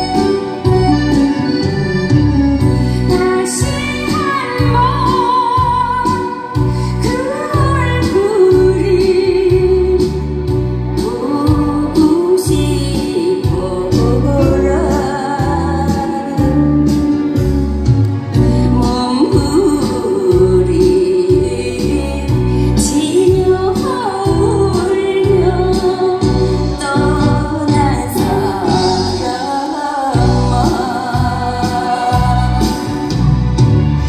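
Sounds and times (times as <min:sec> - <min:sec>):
instrumental accompaniment with beat: 0:00.0 - 0:34.0
woman singing through microphone: 0:02.6 - 0:17.4, 0:18.3 - 0:33.5.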